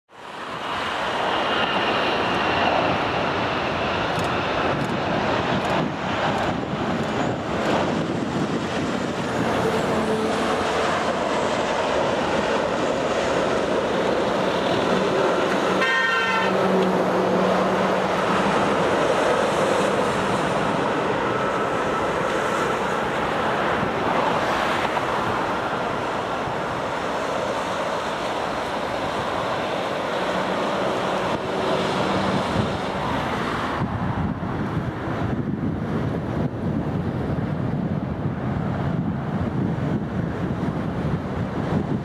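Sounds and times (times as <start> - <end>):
jet engines roaring at takeoff: 0.1 - 42.0.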